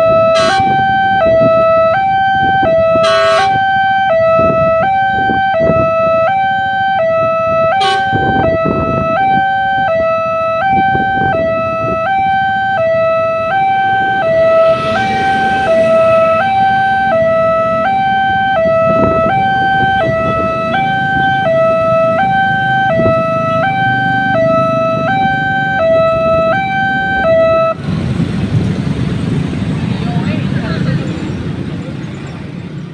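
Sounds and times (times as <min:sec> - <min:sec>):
level crossing two-tone siren: 0:00.0 - 0:27.8
road traffic: 0:00.0 - 0:32.9.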